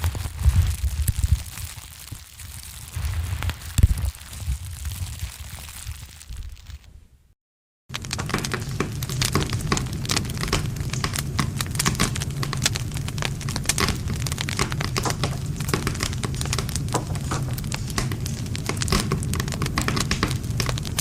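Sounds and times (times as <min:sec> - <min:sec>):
wood fire crackling and popping: 0:00.0 - 0:06.9, 0:07.9 - 0:21.0.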